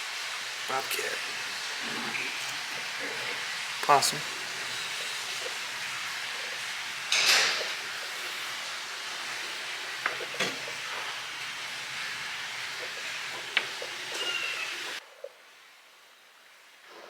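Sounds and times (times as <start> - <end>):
broad hiss: 0.0 - 15.0.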